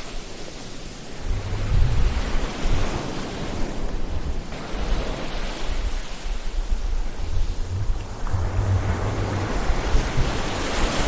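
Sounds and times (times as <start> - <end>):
ocean waves surf: 0.0 - 11.0
deep rumble: 1.1 - 11.0.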